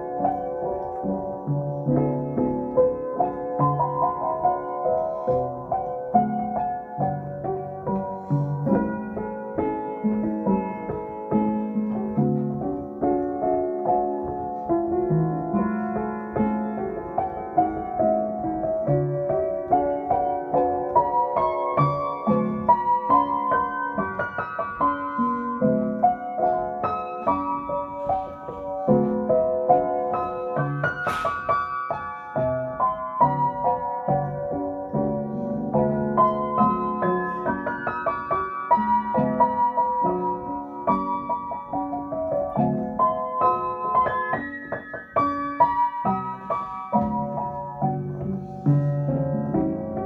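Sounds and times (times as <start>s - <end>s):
gospel piano music: 0.0s - 50.0s.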